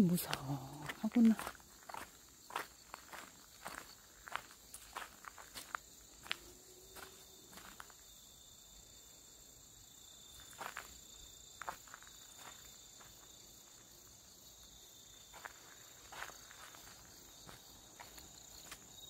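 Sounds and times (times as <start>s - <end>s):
footsteps on grass: 0.0s - 8.0s, 10.4s - 13.9s, 15.2s - 19.0s
insects chirring: 0.0s - 19.0s.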